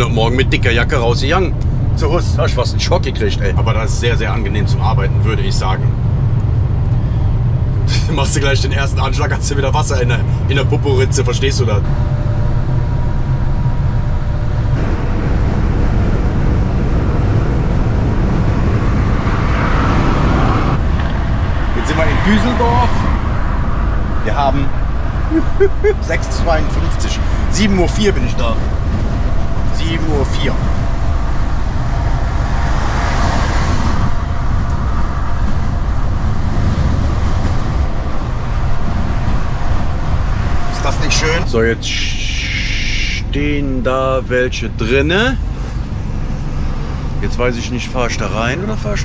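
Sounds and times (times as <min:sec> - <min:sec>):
truck engine and tyres drone: 0:00.0 - 0:49.0
wind and road noise rushing: 0:00.0 - 0:49.0.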